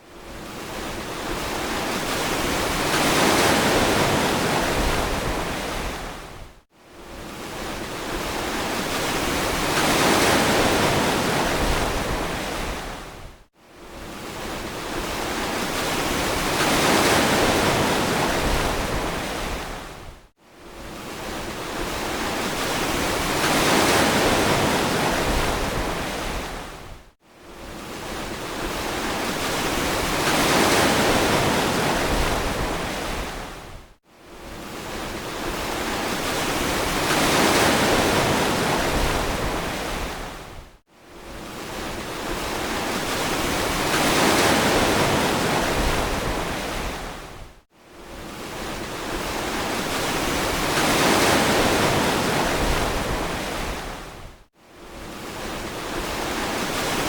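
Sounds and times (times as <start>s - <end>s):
ocean waves washing onto beach: 0.1s - 6.4s, 7.0s - 40.6s, 41.2s - 57.0s.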